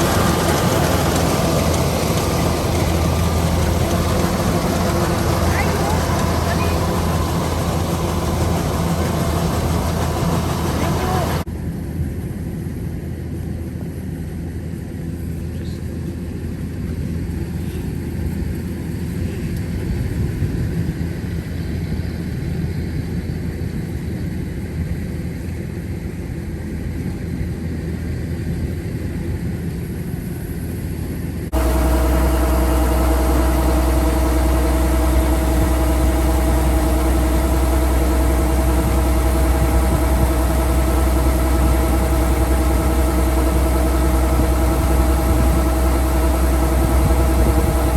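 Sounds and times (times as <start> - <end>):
combine harvester diesel engine: 0.0 - 22.2, 26.6 - 47.9.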